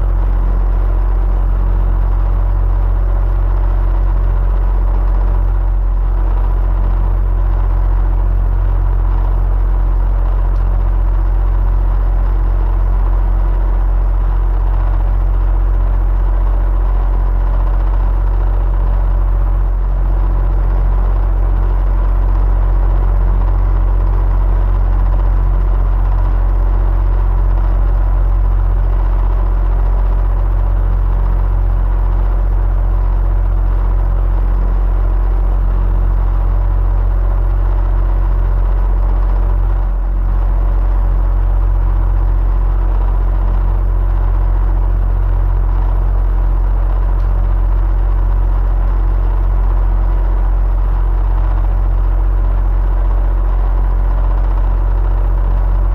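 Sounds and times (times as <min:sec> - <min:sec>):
electric fan running: 0:00.0 - 0:55.9.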